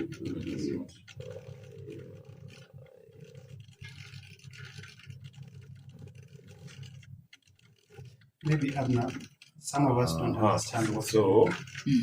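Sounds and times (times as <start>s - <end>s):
stepper motors humming: 0.0s - 12.0s.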